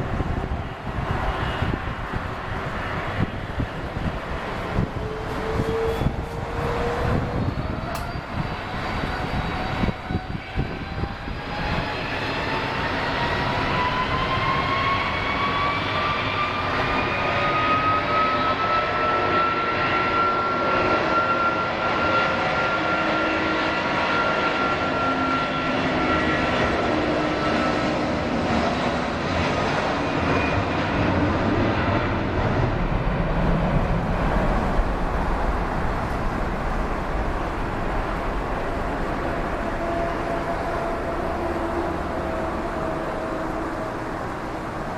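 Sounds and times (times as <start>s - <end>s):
jet engines spooling up: 0.2s - 44.9s.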